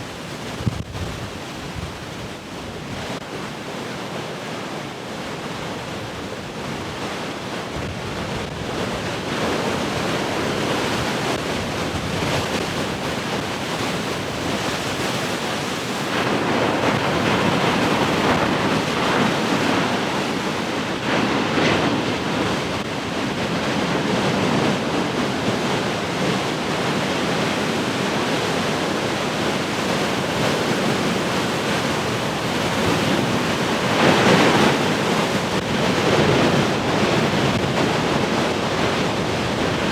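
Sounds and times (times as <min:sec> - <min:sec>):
ocean waves breaking: 0:06.6 - 0:39.9.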